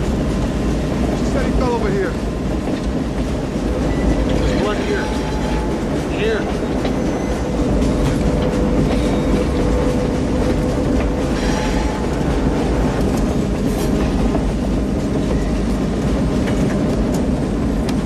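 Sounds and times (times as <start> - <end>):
train rumbling: 0.0 - 18.0
train wheels clattering on rails: 0.0 - 18.0.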